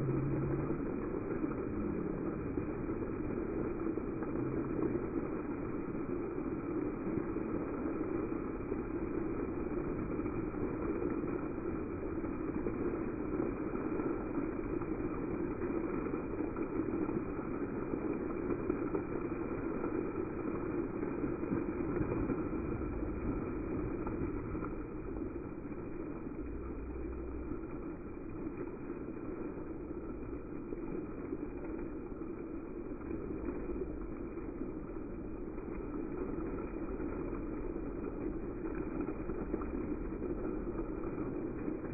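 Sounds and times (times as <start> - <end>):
fountain water splashing: 0.0 - 41.9.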